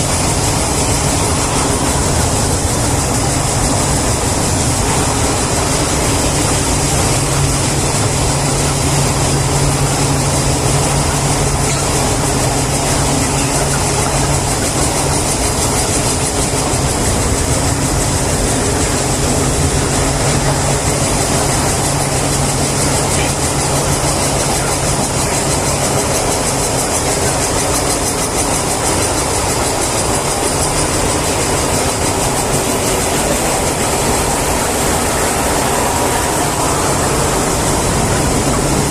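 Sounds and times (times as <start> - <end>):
loud machinery hum: 0.0 - 38.9.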